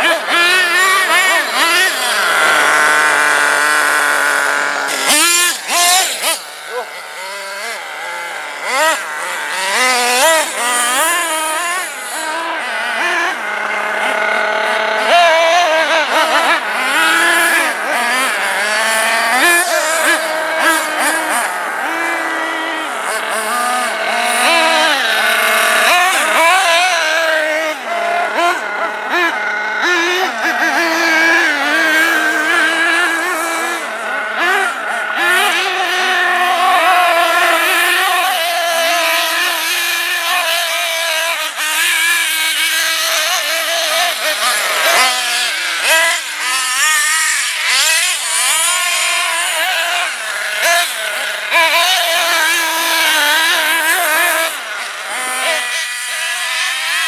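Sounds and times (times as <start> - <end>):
small nitro engine revving: 0.0 - 57.0.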